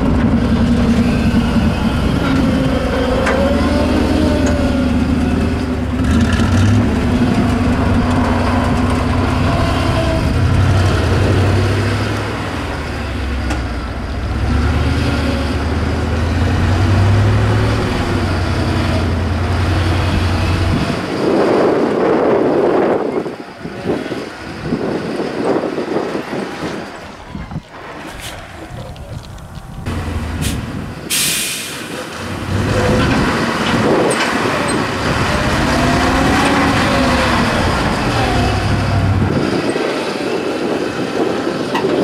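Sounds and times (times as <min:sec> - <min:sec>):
rushing noise: 0:00.0 - 0:13.4, 0:16.3 - 0:41.6
truck engine droning: 0:00.0 - 0:42.0.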